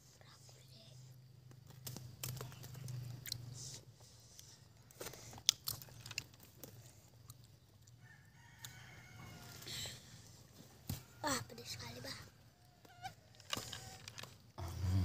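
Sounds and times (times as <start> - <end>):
people chewing and smacking: 1.4 - 11.2, 12.5 - 15.0.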